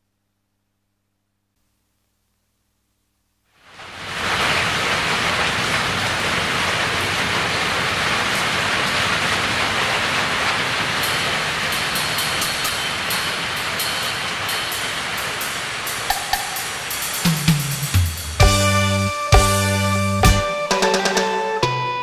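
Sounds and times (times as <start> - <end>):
heavy rain: 3.5 - 21.4.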